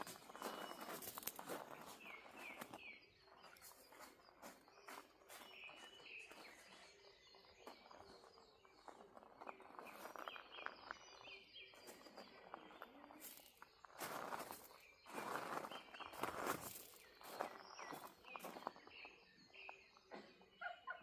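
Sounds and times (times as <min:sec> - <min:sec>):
footsteps on a path: 0:00.0 - 0:20.3
birds chirping: 0:00.0 - 0:21.0.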